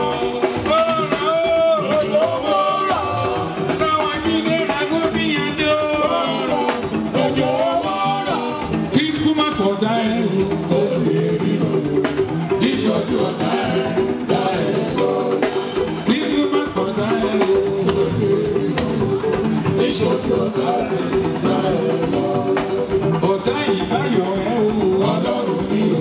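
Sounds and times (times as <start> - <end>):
drum kit playing: 0.0 - 26.0
live band music: 0.0 - 26.0
person singing: 0.0 - 26.0.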